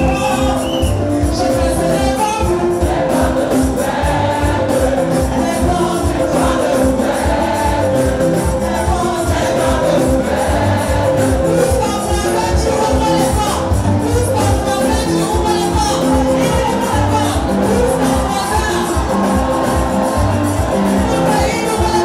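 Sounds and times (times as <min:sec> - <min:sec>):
band with bass and percussion: 0:00.0 - 0:22.0
choir singing gospel: 0:00.0 - 0:22.0.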